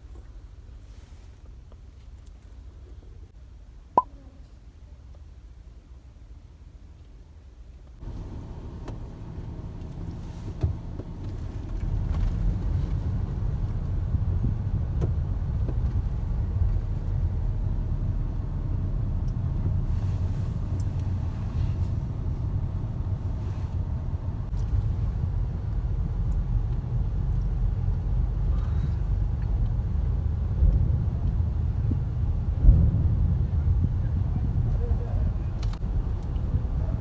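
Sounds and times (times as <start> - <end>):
vehicle rumble in motion: 0.0 - 37.0.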